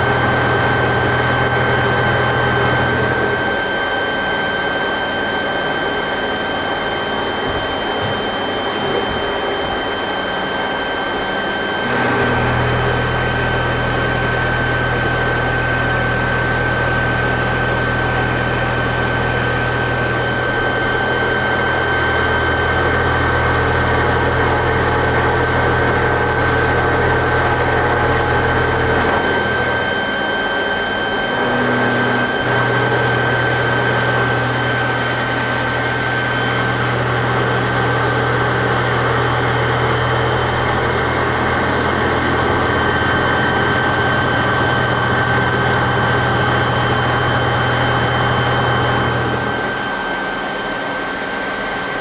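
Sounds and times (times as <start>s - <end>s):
deeper drone: 0.0s - 52.0s
lathe high whine: 0.0s - 52.0s
machine hum: 0.0s - 52.0s.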